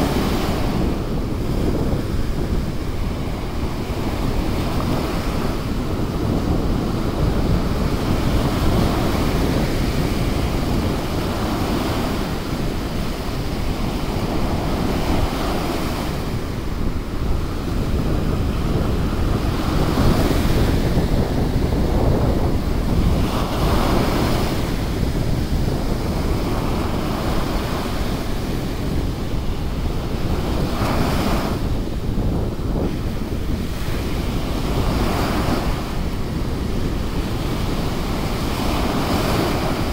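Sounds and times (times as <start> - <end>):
surf washing up beach: 0.0 - 39.9
wind rumbling on microphone: 0.0 - 39.9.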